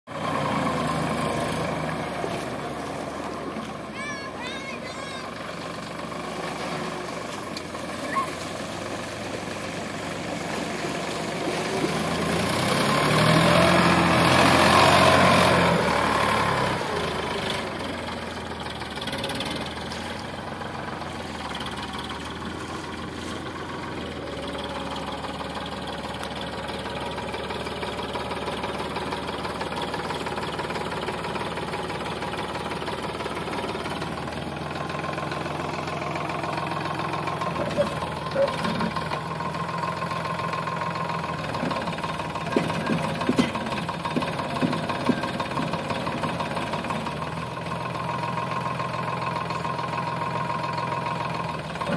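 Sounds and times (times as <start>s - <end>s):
tractor diesel engine running: 0.1s - 51.9s.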